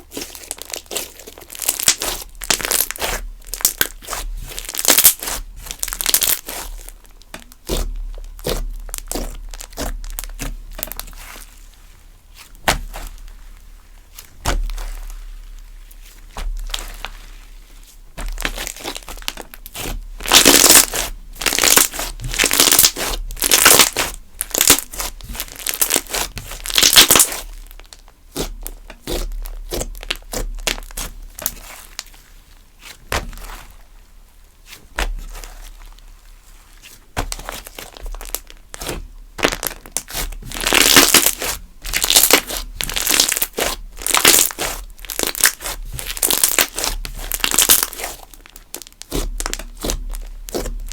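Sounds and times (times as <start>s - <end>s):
slime crackling and popping: 0.0s - 11.7s, 12.4s - 34.0s, 34.6s - 50.9s
slime squishing: 0.0s - 50.9s.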